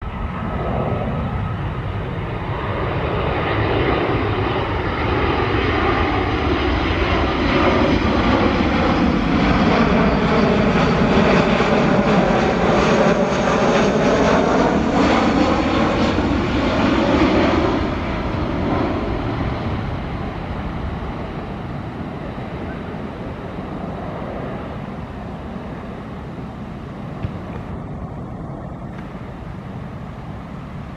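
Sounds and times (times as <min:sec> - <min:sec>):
jet plane passing with whine: 0:00.0 - 0:30.9.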